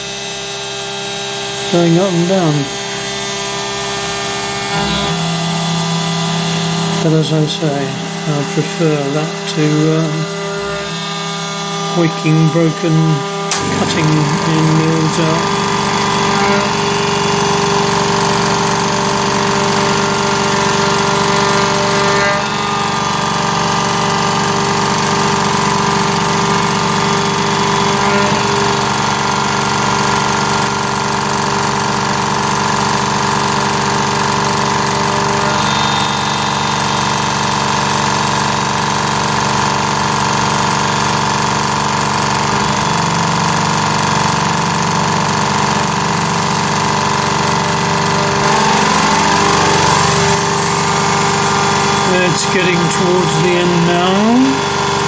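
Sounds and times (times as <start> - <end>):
cnc mill cutting metal: 0.0 - 55.0.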